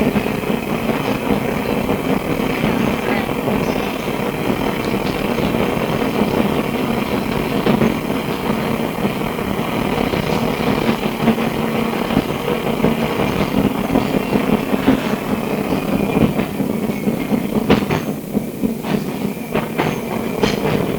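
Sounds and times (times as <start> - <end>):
tram running noise: 0.0 - 20.9.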